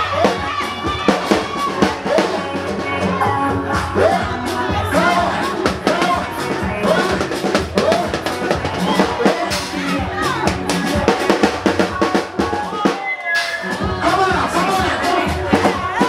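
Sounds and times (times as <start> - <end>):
drum beat: 0.0 - 16.0
person singing: 0.0 - 16.0.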